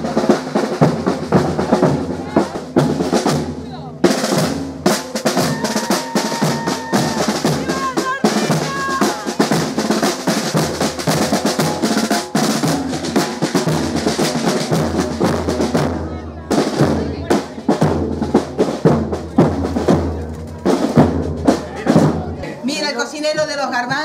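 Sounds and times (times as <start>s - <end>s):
rapid snare and bass drumming: 0.0s - 22.5s.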